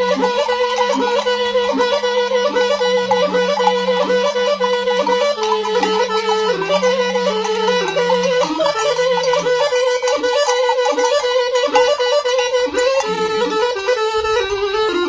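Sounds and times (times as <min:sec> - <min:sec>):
end-blown flute melody: 0:00.0 - 0:15.0
steady low drone: 0:00.4 - 0:14.6.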